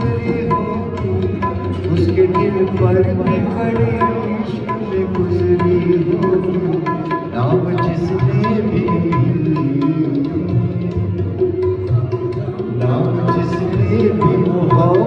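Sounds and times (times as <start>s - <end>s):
harmonium chords: 0.0s - 15.0s
man singing: 0.0s - 15.0s
tabla rhythm: 0.0s - 15.0s.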